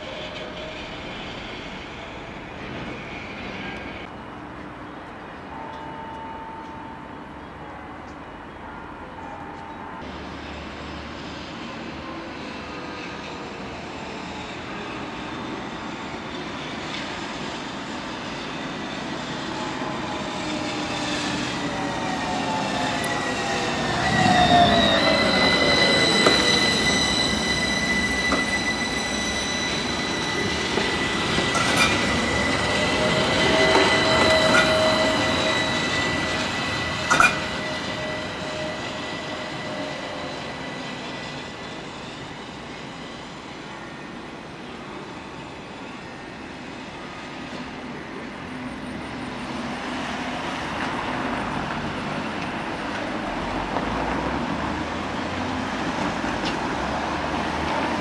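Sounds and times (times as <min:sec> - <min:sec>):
road traffic: 0:00.0 - 0:58.0
tram squealing on rails: 0:00.0 - 0:58.0.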